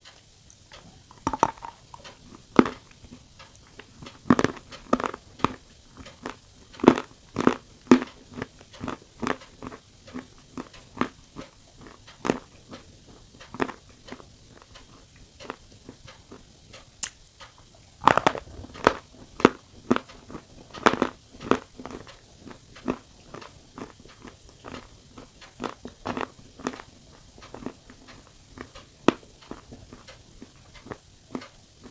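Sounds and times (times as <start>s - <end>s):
person chewing crunchy cookies: 0.5s - 17.2s, 17.9s - 31.9s.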